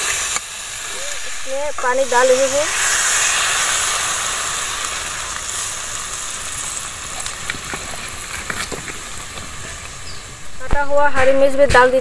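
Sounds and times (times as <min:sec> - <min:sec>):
water hissing in hot pan: 0:00.0 - 0:11.6.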